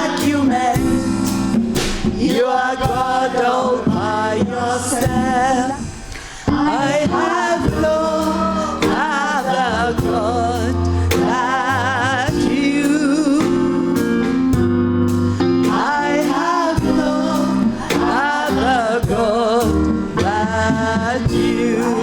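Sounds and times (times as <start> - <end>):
bass guitar: 0.0 - 2.2, 6.5 - 22.0
gospel singer with vibrato: 0.0 - 22.0.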